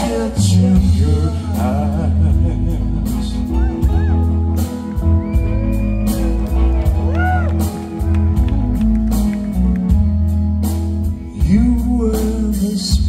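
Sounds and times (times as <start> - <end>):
electric guitar: 0.0 - 11.4
bass guitar: 0.0 - 13.0
drums keeping a steady beat: 0.0 - 13.0.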